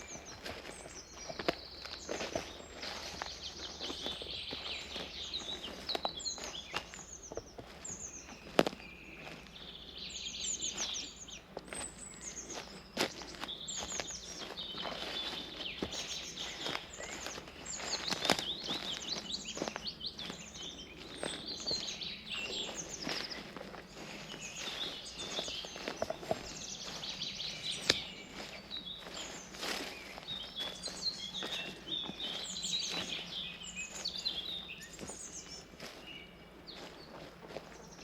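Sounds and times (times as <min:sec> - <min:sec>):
birds singing: 0:00.0 - 0:38.0
footsteps on forest path: 0:00.0 - 0:38.0.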